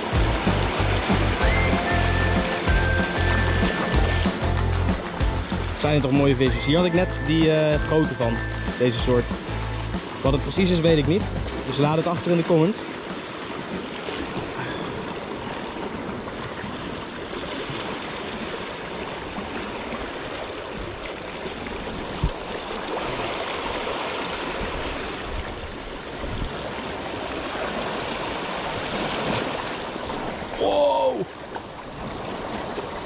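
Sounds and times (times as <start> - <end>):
sea water splashing over rocks: 0.0 - 33.0.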